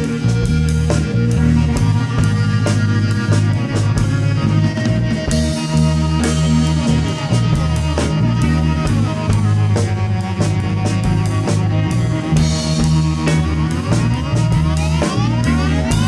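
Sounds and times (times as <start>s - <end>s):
rock music with drums and guitar: 0.0s - 16.0s.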